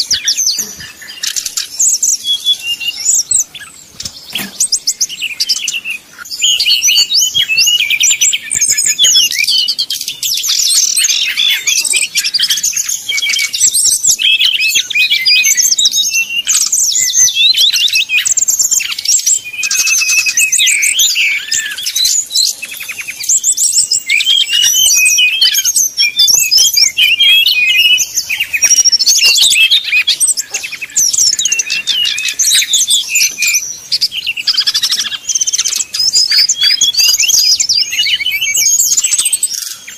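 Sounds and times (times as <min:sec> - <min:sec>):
flycatcher singing whistles and trills: 0:00.0 - 0:39.9.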